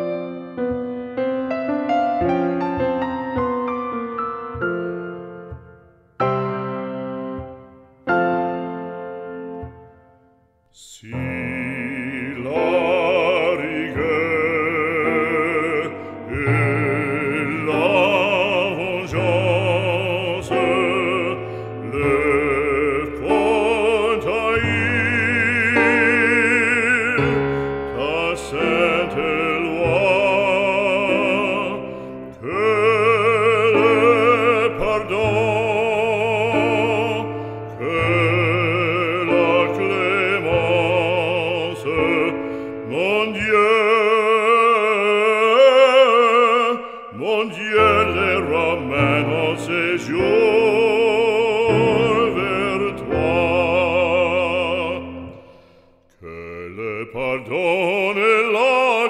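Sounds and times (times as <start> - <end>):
classical accompaniment: 0.0 - 59.0
operatic voice singing: 10.7 - 59.0.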